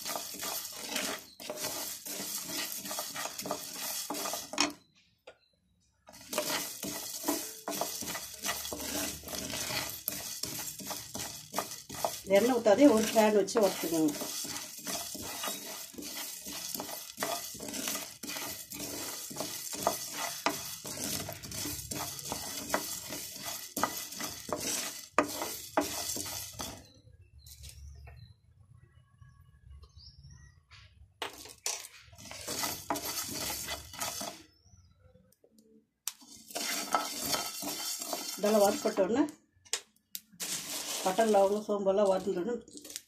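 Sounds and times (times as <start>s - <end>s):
seeds roasting in a pan: 0.0s - 4.9s, 6.0s - 28.3s, 31.2s - 34.9s, 36.0s - 43.0s.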